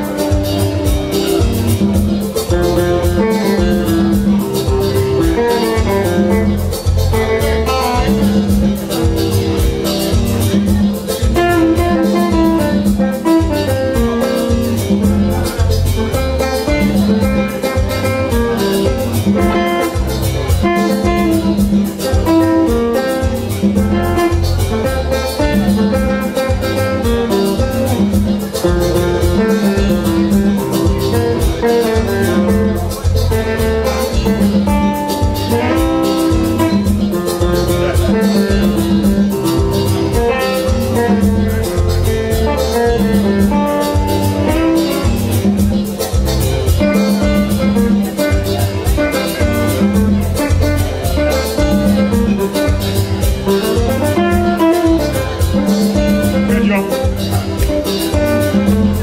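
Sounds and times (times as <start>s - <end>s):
electric guitar melody: 0.0s - 59.0s
pulsing bass line: 0.0s - 59.0s
steady beat: 0.0s - 59.0s.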